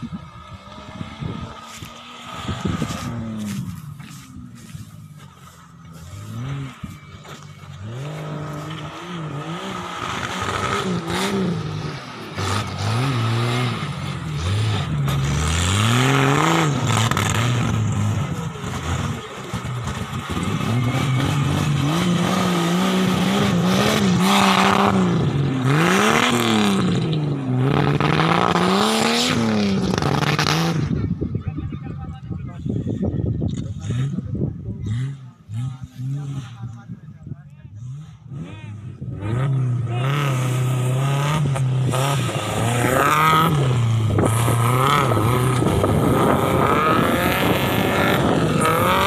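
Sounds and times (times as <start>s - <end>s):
off-road vehicle engine revving: 0.0s - 49.0s.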